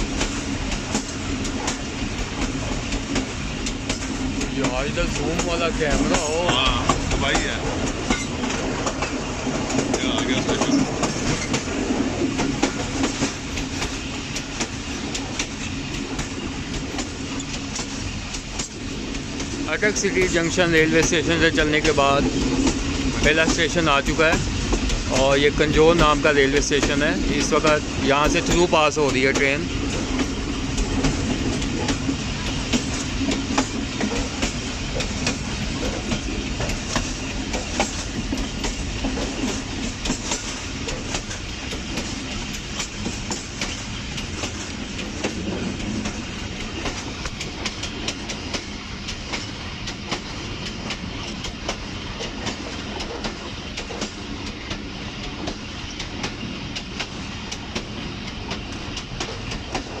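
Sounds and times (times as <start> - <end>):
train running noise: 0.0 - 60.0
train wheels clicking over rail joints: 0.0 - 60.0.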